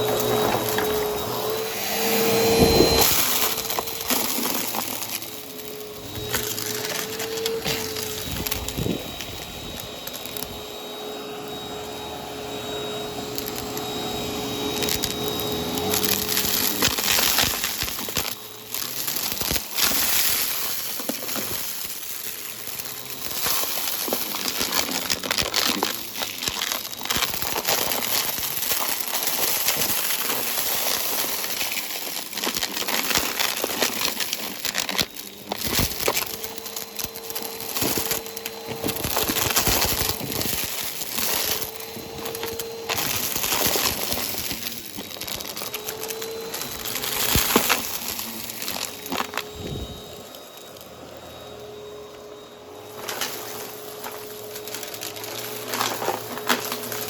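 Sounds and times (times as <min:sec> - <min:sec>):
vacuum brushroll crunching debris: 0:00.0 - 0:57.0
vacuum motor whine: 0:00.0 - 0:57.0.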